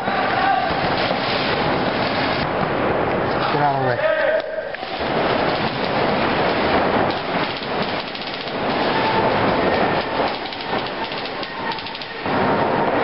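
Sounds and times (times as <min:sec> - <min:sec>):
noisy din: 0:00.0 - 0:13.0.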